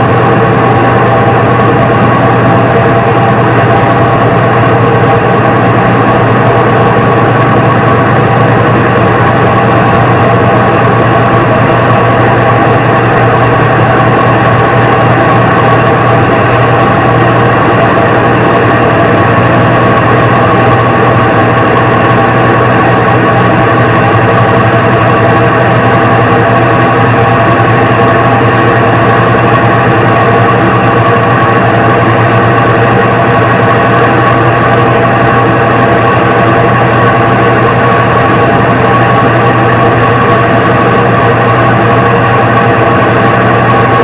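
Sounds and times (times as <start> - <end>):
washing machine humming: 0.0 - 44.0.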